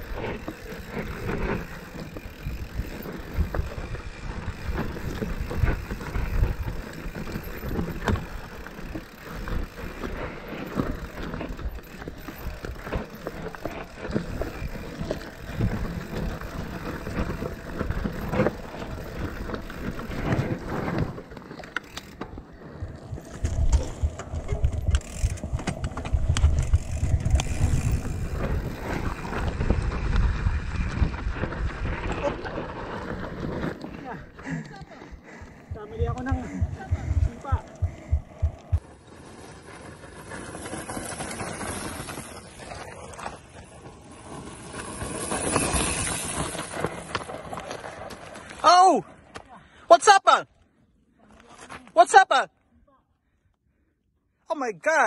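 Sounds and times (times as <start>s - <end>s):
bike chain and frame clatter: 0.0s - 49.1s
bike tyres crunching over gravel: 0.0s - 49.5s.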